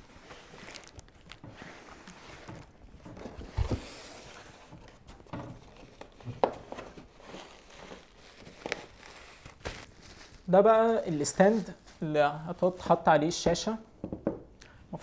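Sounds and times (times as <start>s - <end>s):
cardboard box rustling: 0.0s - 13.0s.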